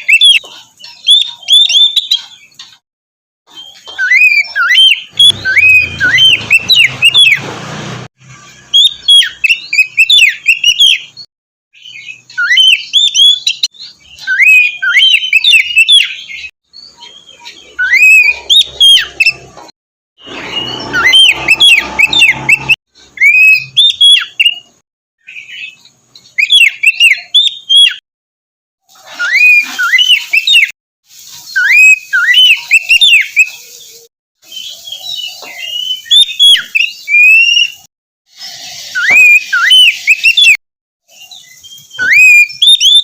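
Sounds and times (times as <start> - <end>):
songbird whistles and chirps: 0.0 - 2.8, 3.5 - 7.4, 8.2 - 28.0, 29.1 - 43.0.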